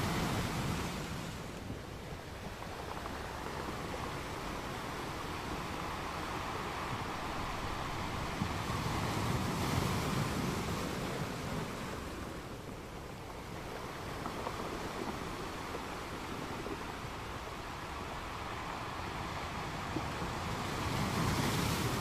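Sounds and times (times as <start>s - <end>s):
sea water rushing: 0.0s - 22.0s
wind buffeting microphone: 0.0s - 22.0s.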